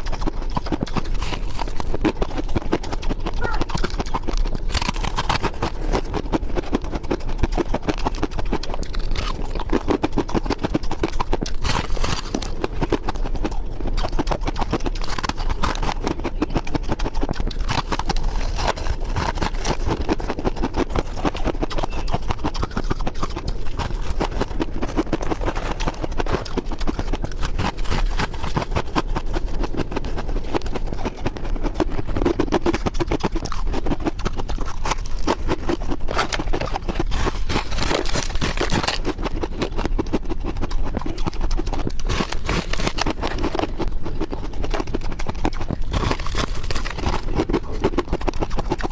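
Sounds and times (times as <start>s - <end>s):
ice being bitten and chewed: 0.0s - 48.9s.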